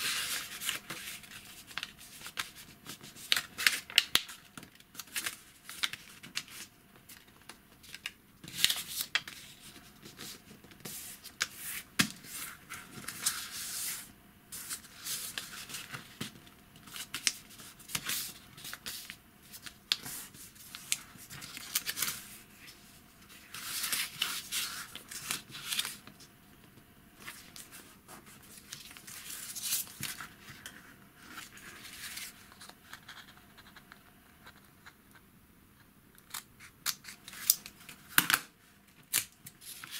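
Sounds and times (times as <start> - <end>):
paper rustling and crinkling: 0.0 - 26.3, 27.2 - 33.8, 39.1 - 39.9.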